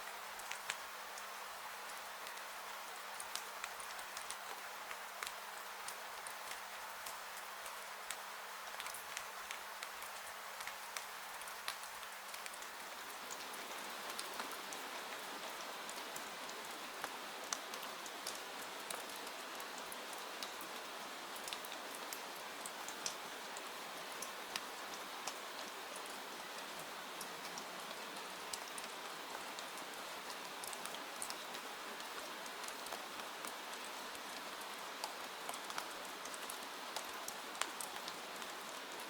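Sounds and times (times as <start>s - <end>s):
rain hiss: 0.0s - 39.0s.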